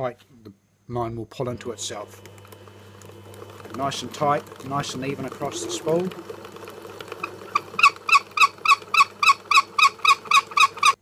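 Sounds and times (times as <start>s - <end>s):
line spool squeaking: 1.6s - 11.0s.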